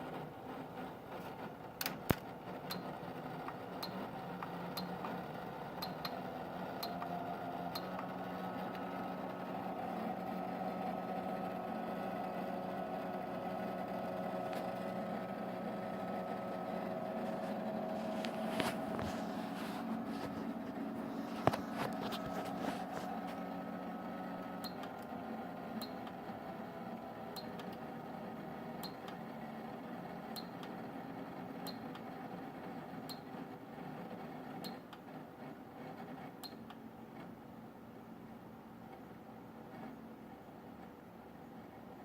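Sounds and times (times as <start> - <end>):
cooling unit humming: 0.0 - 35.2.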